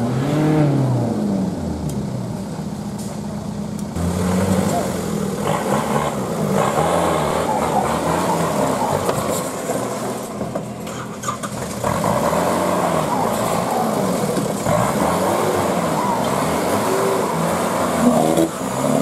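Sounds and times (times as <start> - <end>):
off-road engine revving hard: 0.0 - 1.9, 4.0 - 10.4, 11.0 - 19.0.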